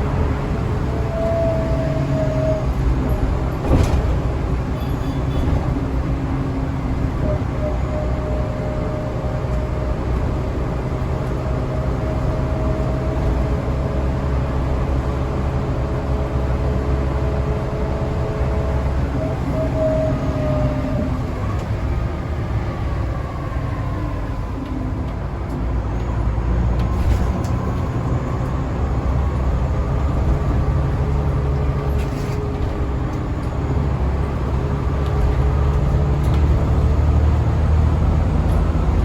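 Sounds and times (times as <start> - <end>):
bus diesel engine rumble: 0.0 - 39.0
engine whine: 0.0 - 39.0.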